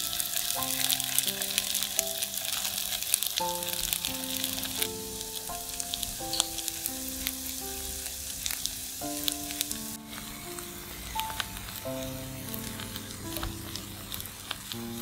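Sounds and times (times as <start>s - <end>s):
oil popping and crackling: 0.0s - 15.0s
patties sizzling in oil: 0.0s - 15.0s
soft background music: 0.0s - 15.0s.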